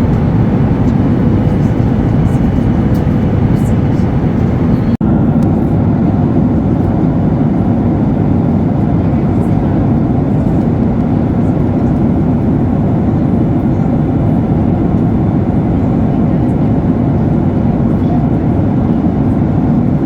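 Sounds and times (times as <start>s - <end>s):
airplane cabin engine roar: 0.0s - 20.0s.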